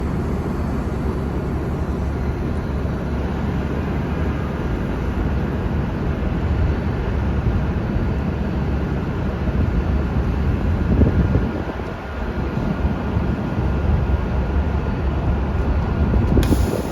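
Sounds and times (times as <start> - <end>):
bus engine rumble: 0.0 - 16.9.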